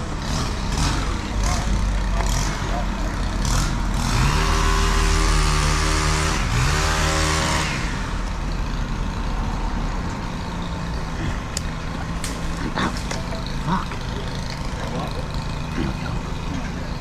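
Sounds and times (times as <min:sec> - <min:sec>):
heavy engine revving: 0:00.0 - 0:17.0.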